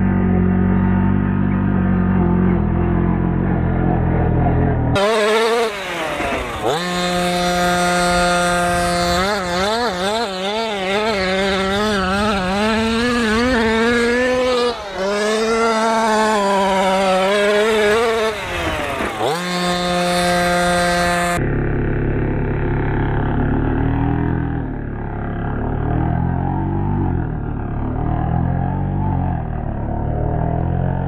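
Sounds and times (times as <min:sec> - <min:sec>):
two-stroke engine revving high: 0:00.0 - 0:31.0.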